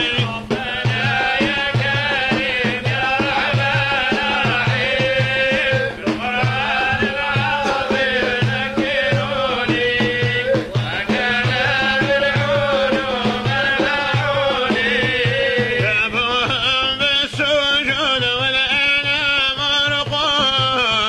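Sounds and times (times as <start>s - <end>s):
wavering folk melody: 0.0s - 18.3s
low drum beat: 0.0s - 21.0s.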